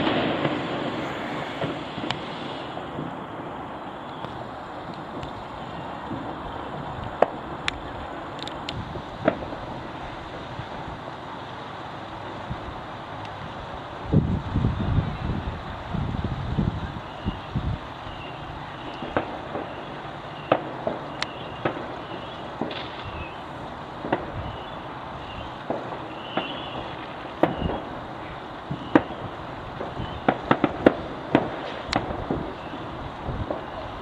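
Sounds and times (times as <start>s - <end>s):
fireworks bangs and pops: 0.0s - 13.8s, 15.8s - 34.0s
background hiss: 0.0s - 34.0s.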